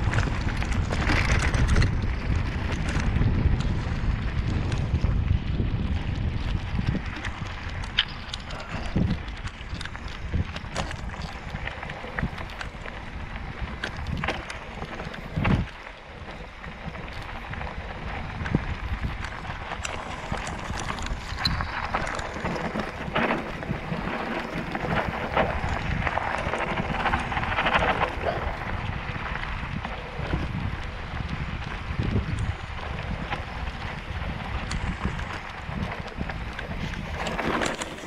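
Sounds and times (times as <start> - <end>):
bike rattling over bumps: 0.0 - 38.0
tyres crunching on stones: 0.0 - 38.0
wind buffeting microphone: 0.0 - 38.0.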